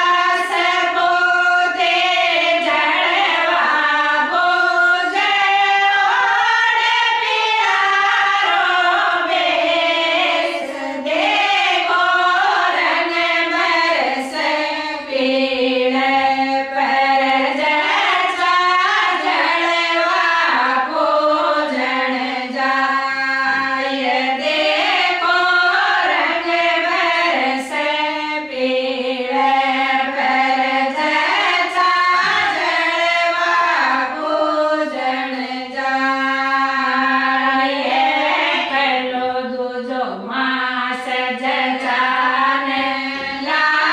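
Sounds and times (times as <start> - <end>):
women singing folk song: 0.0 - 43.9.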